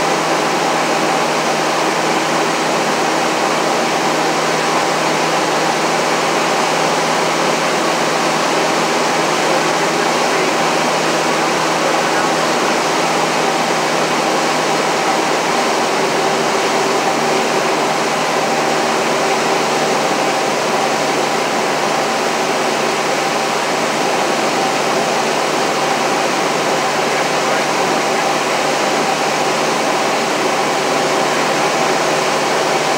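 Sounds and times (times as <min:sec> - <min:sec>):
airplane engine and propeller drone: 0:00.0 - 0:32.9.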